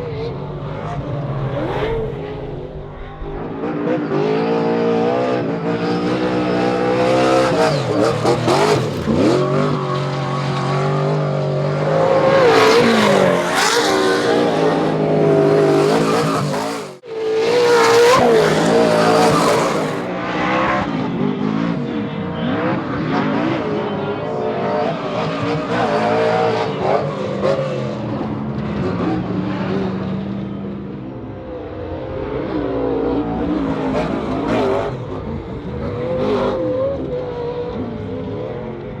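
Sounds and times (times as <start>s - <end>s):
racing truck engines revving: 0.0s - 39.0s.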